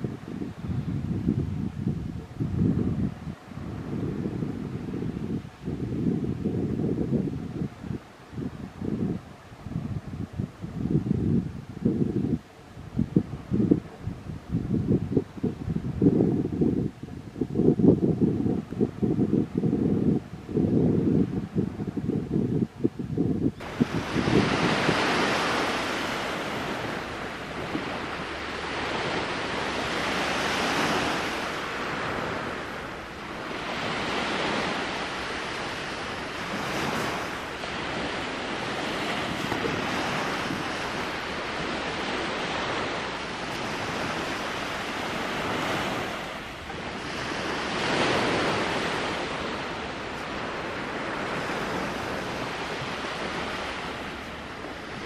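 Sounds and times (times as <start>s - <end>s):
small waves breaking on beach: 0.0s - 22.4s, 23.5s - 55.0s.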